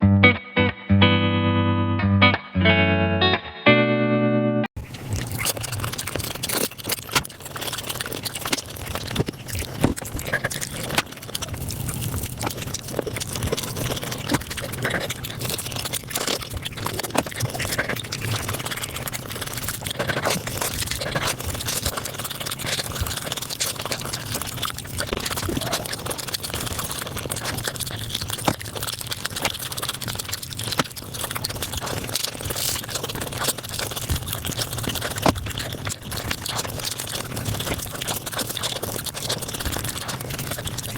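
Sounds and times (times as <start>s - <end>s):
chewing and crunching: 4.8s - 40.9s.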